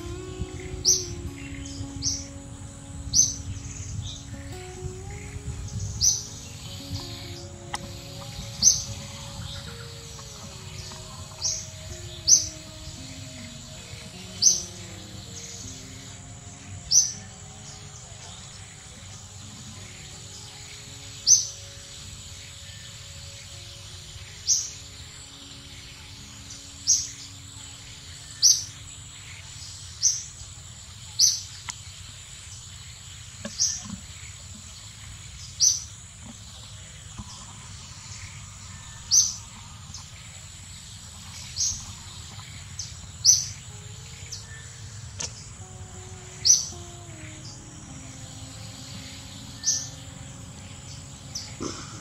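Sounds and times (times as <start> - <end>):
bird chirping: 0.0 - 52.0
high insect drone: 0.0 - 52.0.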